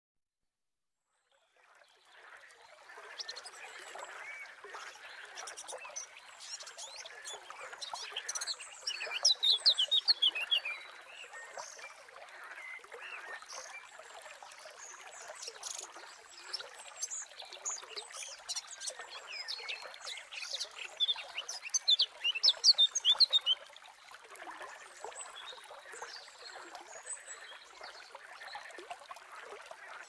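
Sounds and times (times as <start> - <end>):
stream trickling: 1.2 - 30.0.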